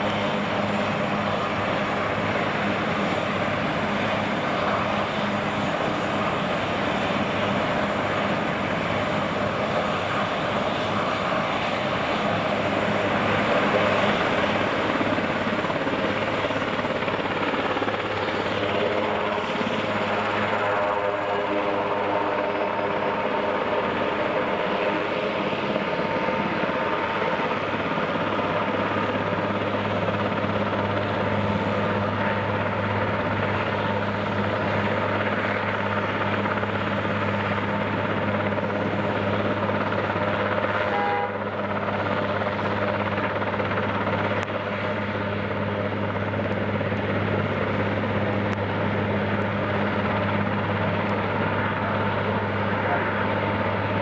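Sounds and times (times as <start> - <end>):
helicopter turbine and rotor noise: 0.0 - 54.0.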